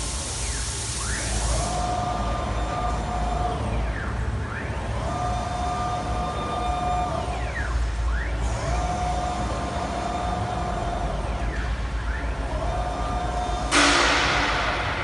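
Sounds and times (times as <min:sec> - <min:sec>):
motors whining: 0:00.0 - 0:13.8.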